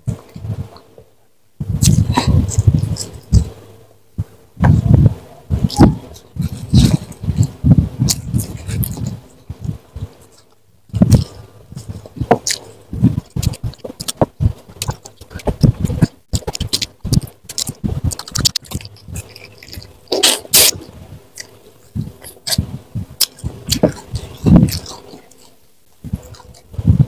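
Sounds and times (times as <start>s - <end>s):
chewing and lip-smacking: 1.8s - 3.6s, 5.6s - 26.9s.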